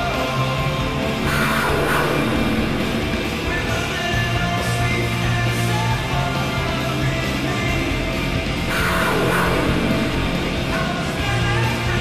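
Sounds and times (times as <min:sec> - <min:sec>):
hard rock song: 0:00.0 - 0:12.0.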